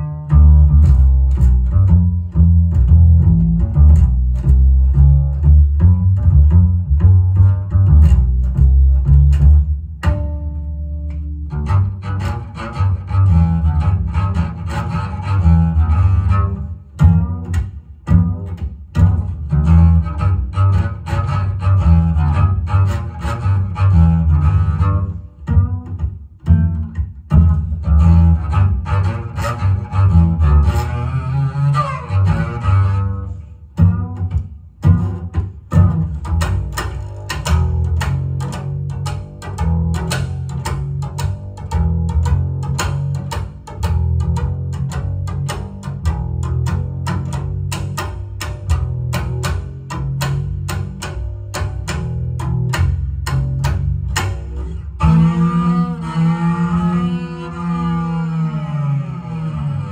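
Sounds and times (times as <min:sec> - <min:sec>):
jazz band with double bass: 0:00.0 - 0:59.9.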